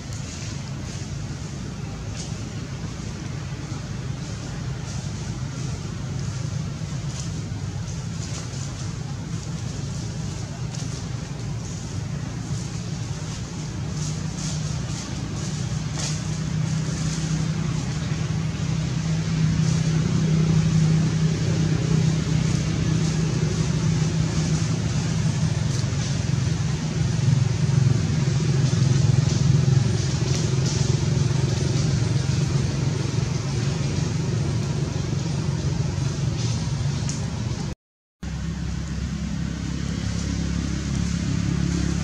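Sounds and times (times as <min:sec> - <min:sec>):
low engine rumble: 0:00.0 - 0:42.0.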